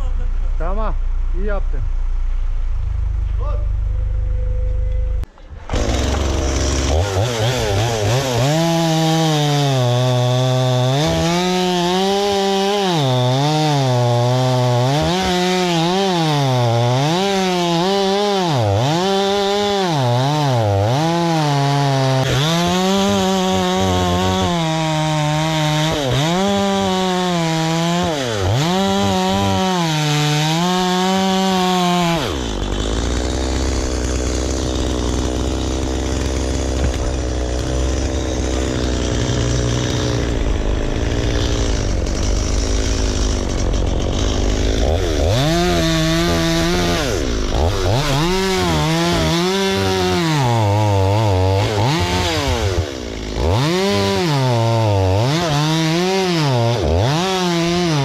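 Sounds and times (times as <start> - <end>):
chainsaw cutting wood: 5.2 - 58.0.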